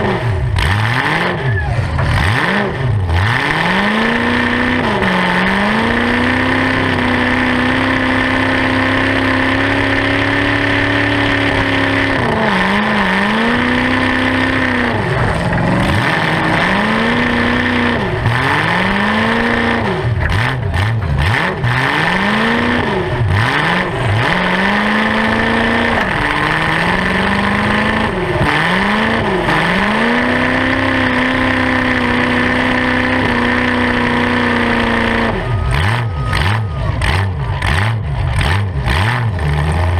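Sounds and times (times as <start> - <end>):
car engine revving loud: 0.0 - 39.9.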